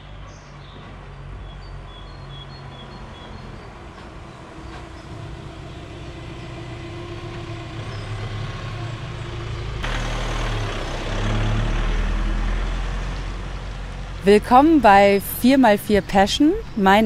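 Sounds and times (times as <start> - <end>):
diesel engine running: 0.0 - 17.0
tyres on cobblestones: 0.0 - 17.0.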